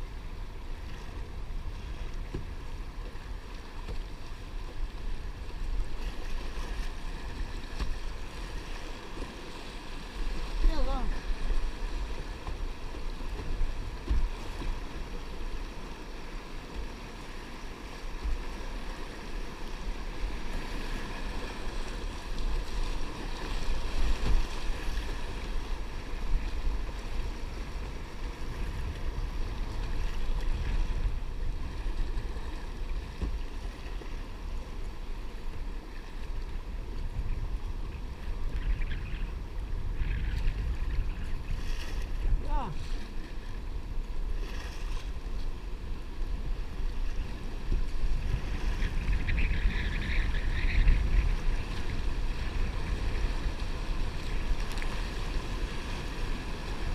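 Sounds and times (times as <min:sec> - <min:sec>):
wind rumbling on microphone: 0:00.0 - 0:56.9.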